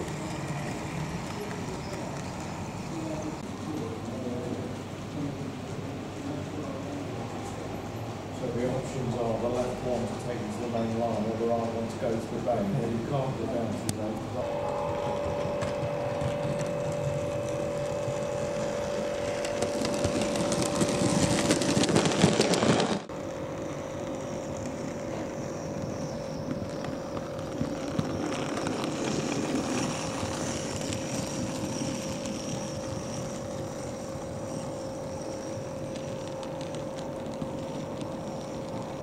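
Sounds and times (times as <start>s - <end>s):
model train motor hum: 0.0s - 3.4s, 8.8s - 39.0s
wheels rushing on rails: 0.0s - 4.9s, 6.0s - 39.0s.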